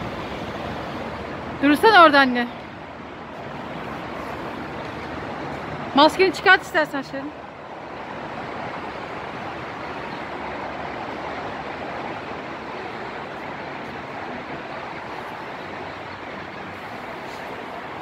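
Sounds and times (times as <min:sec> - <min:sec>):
city street traffic hum: 0:00.0 - 0:18.0.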